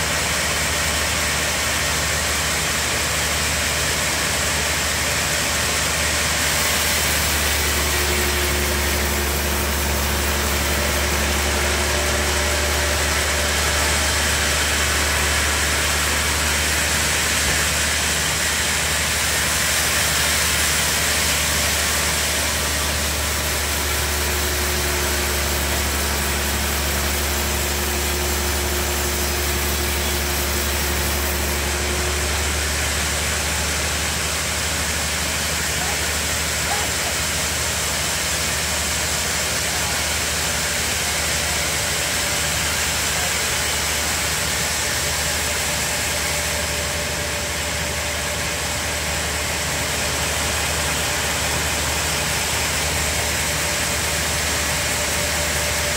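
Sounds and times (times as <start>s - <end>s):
band saw motor hum: 0.0s - 55.9s
saw blade rushing through wood: 4.4s - 55.9s.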